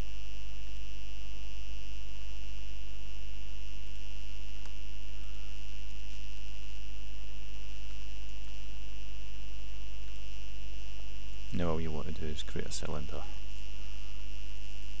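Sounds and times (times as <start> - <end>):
low electrical hum: 0.0 - 15.0
thin high whine: 0.0 - 15.0.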